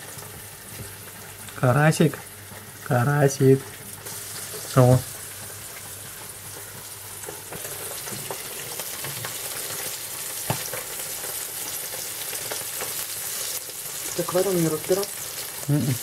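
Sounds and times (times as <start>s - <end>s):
fish sizzling in a frying pan: 0.0s - 16.0s.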